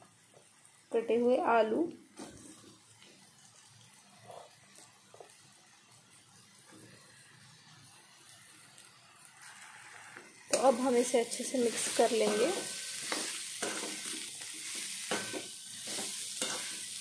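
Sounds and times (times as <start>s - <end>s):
spices frying hiss: 0.0s - 17.0s.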